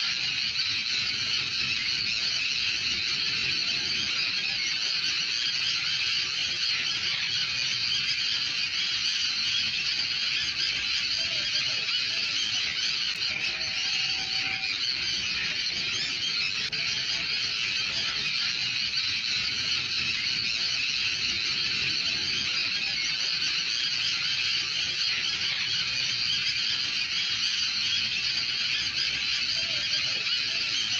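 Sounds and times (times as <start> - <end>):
chorus of birds calling: 0.0 - 30.9.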